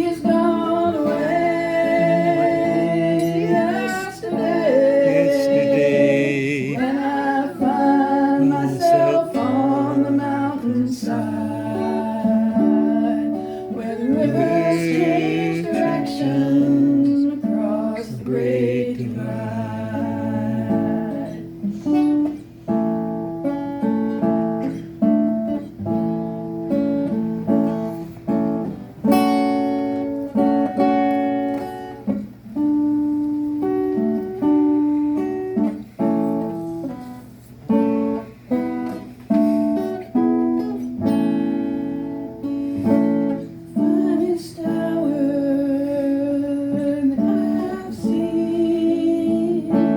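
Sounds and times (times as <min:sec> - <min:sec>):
acoustic guitar playing: 0:00.0 - 0:49.9.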